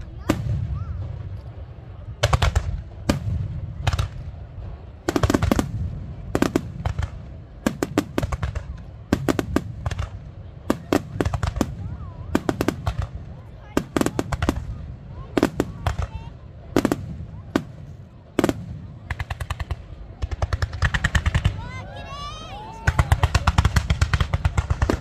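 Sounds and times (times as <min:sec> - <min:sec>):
fireworks cracks and bangs: 0:00.0 - 0:21.8, 0:22.6 - 0:25.0.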